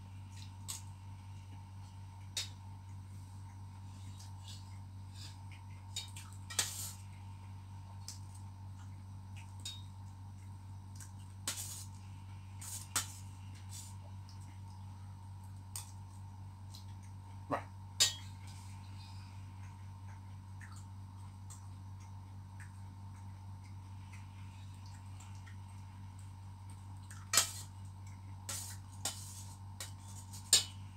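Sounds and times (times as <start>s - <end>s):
low hum: 0.0s - 30.9s.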